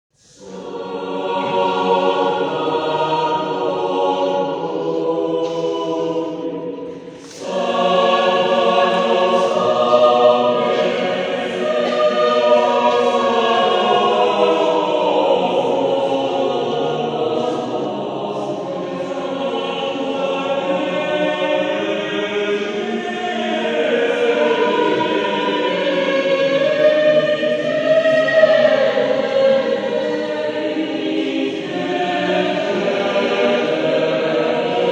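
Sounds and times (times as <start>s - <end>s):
church choir singing: 0.2s - 34.9s.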